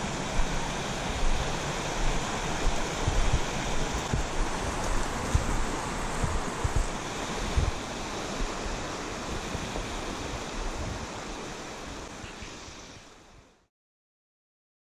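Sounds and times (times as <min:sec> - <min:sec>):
creek rushing over rocks: 0:00.0 - 0:13.2.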